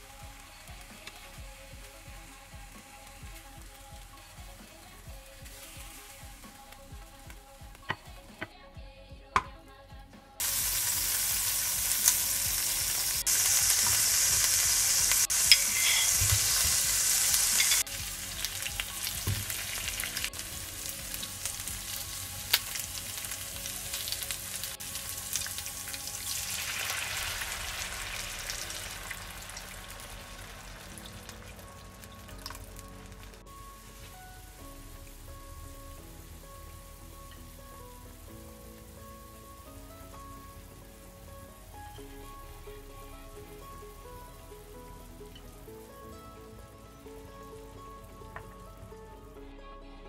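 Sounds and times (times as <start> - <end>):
onions sizzling in oil: 0.0 - 7.4, 10.4 - 48.6.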